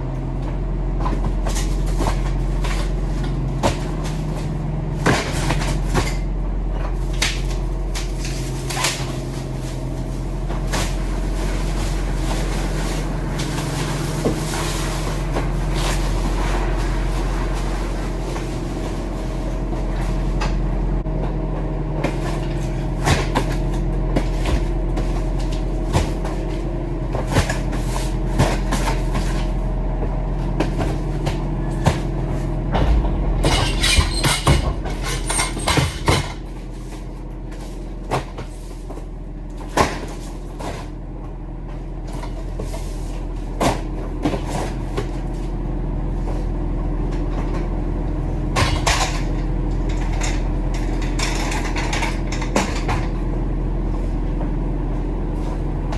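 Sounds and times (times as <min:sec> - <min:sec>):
truck engine droning: 0:00.0 - 0:55.9.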